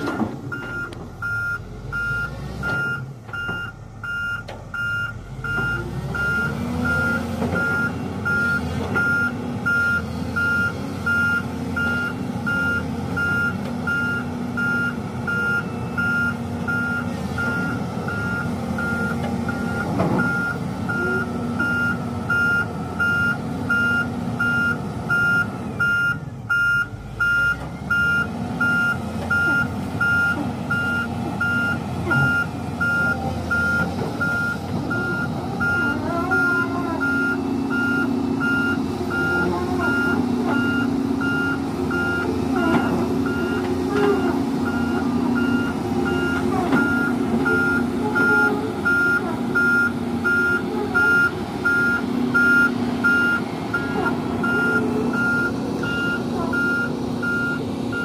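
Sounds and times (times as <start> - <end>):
diesel engine running: 0.0 - 58.0
excavator travel alarm beeping: 0.0 - 58.0.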